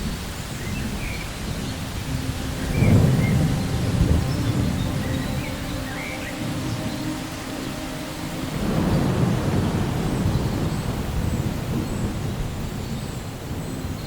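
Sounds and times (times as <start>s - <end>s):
steady rain hissing: 0.0s - 14.0s
thunder rumbling: 0.0s - 14.0s.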